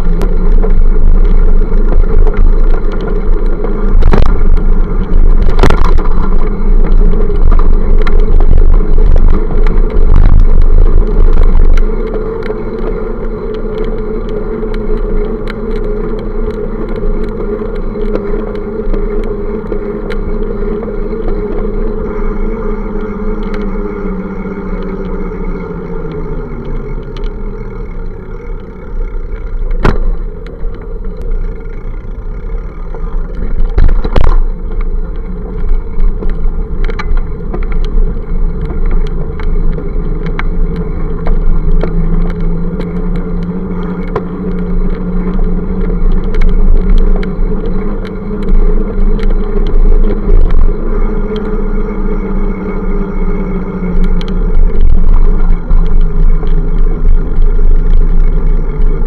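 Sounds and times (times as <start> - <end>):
vehicle engines passing: 0.0 - 59.0
wind and road noise rumble: 0.0 - 59.0.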